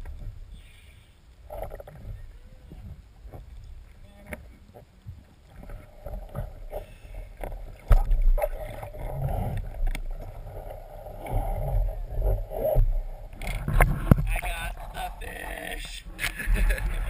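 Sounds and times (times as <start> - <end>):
water sloshing and splashing: 1.4 - 17.0.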